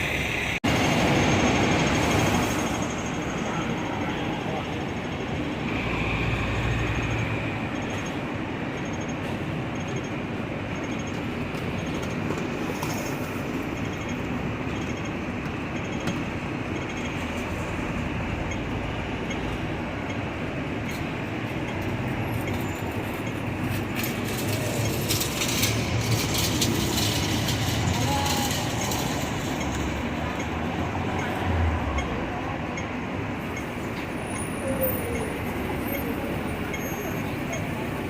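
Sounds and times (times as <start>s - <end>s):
traffic: 0.0s - 38.0s
tram rumbling along track: 0.0s - 38.0s.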